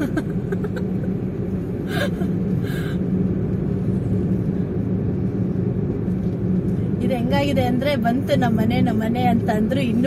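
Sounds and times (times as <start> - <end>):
road and engine rumble in car: 0.0 - 10.0.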